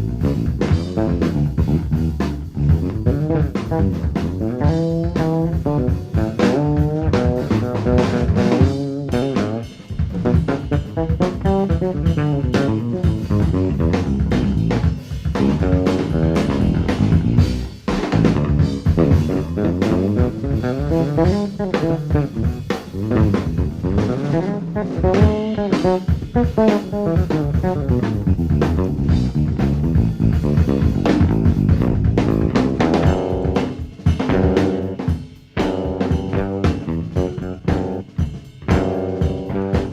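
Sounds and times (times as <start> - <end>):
alto saxophone: 0.0 - 39.9
drum kit with rimshots: 0.0 - 39.9
electric bass: 0.0 - 39.9.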